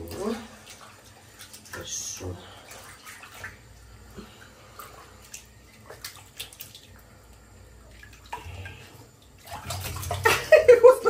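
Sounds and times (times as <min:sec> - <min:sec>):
bathwater splashing and dripping: 0:00.0 - 0:11.0.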